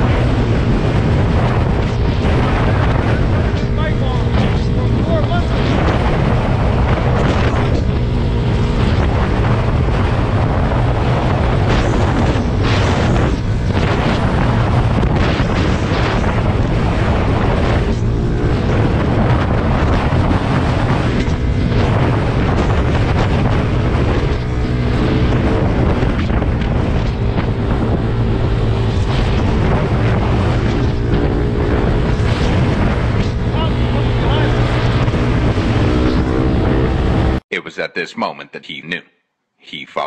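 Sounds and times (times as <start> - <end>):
low engine drone: 0.0 - 37.4
wind buffeting microphone: 0.0 - 37.4.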